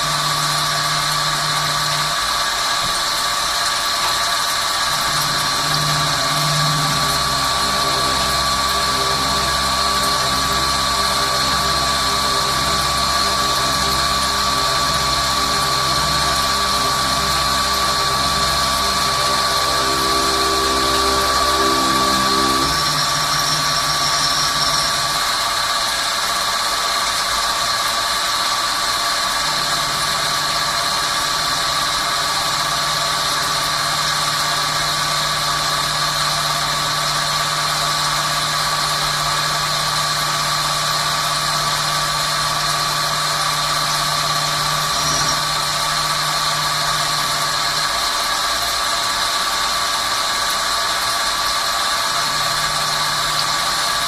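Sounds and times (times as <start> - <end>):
low hum: 0.0 - 3.2, 4.8 - 25.5, 29.3 - 48.6, 51.7 - 54.0
lathe high whine: 0.0 - 54.0.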